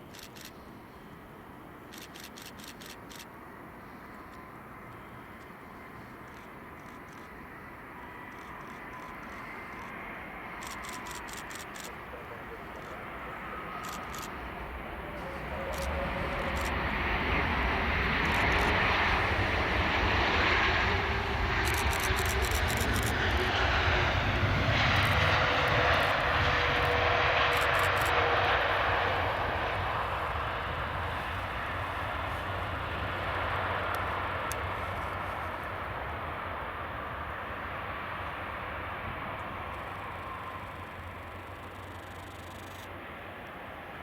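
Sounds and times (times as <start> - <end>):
jet airliner engine rumble: 0.0 - 44.0.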